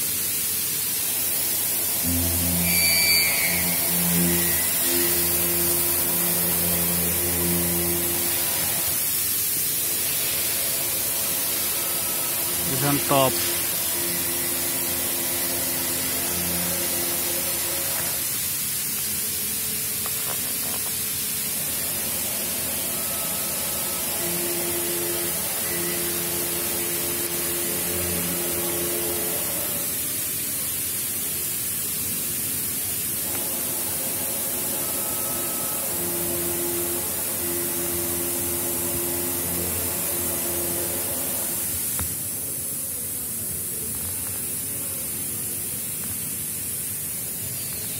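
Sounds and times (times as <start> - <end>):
steady hiss: 0.0 - 47.9
machine hum: 0.5 - 30.5, 33.2 - 42.4.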